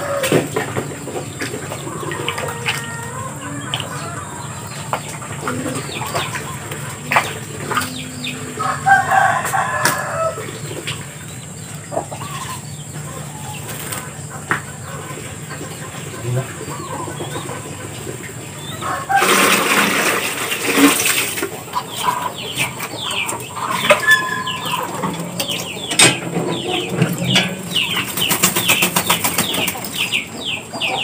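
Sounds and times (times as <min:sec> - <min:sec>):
poultry calling: 0:00.0 - 0:20.2, 0:20.8 - 0:31.0
ducks splashing in water: 0:00.0 - 0:31.0.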